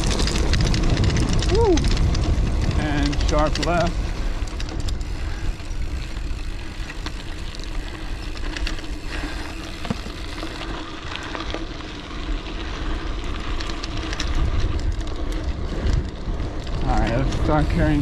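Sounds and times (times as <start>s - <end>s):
bike clicks and rattles: 0.0s - 18.0s
bike tyres crunching over dirt: 0.0s - 18.0s
low rumble: 0.0s - 18.0s.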